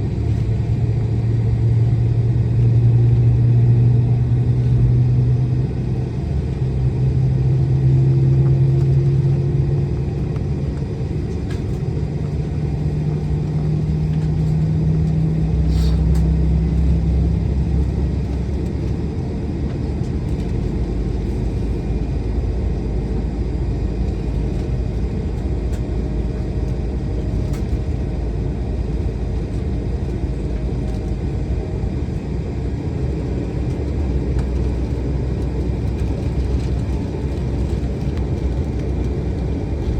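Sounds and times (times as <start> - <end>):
aircraft cabin rumble and hum: 0.0 - 39.9.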